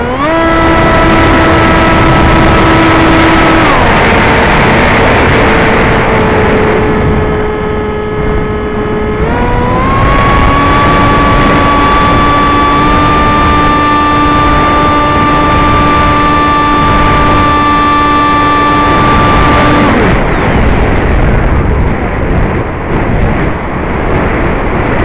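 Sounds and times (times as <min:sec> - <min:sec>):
electric motor whining: 0:00.0 - 0:20.7
rush of air: 0:00.0 - 0:25.0.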